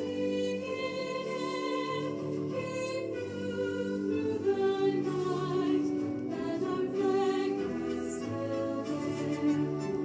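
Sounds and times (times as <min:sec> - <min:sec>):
choir singing held notes: 0:00.0 - 0:10.0.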